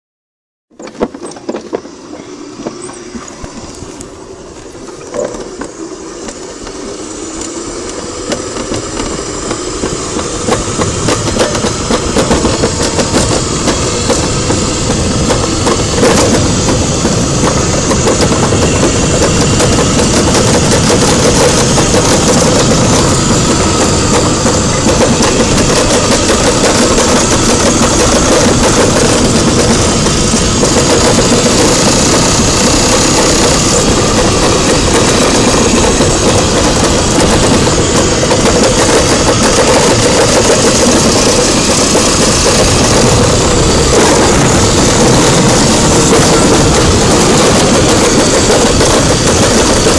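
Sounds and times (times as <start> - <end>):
bobsled rattling down steel track: 0.7 - 49.9.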